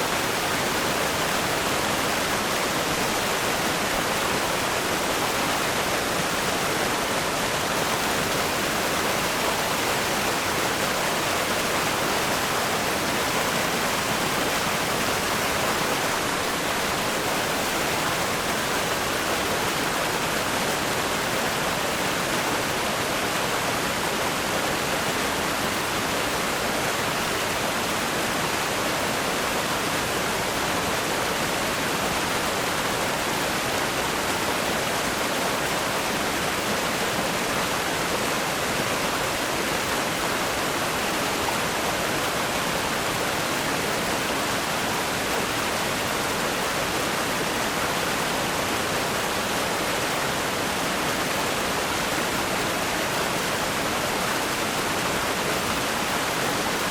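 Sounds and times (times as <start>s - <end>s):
river rapids rushing over rocks: 0.0s - 56.9s.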